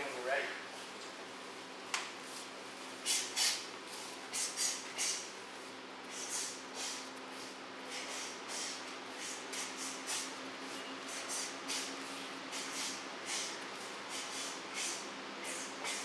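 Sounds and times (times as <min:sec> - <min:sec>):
sharp breaths and uniform swishes: 0:02.3 - 0:16.0.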